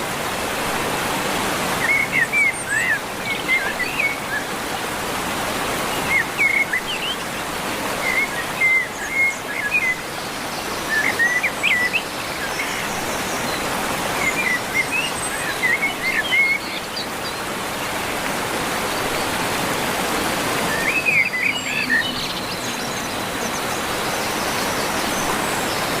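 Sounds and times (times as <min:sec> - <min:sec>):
songbirds chirping: 0:01.4 - 0:26.0.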